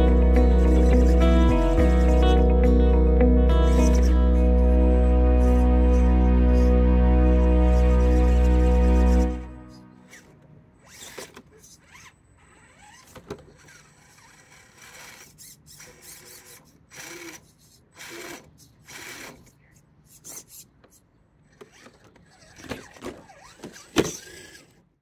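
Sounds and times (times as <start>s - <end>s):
electric motor and gearbox whining: 0.0s - 24.9s.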